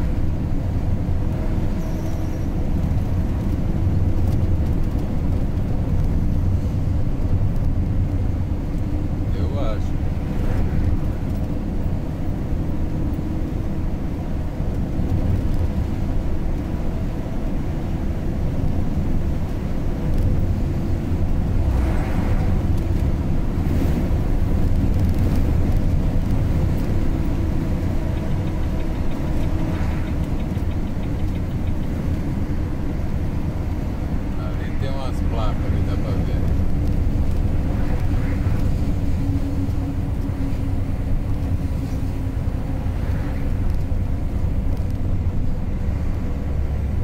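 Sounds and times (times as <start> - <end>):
vehicle road and engine noise: 0.0 - 47.0.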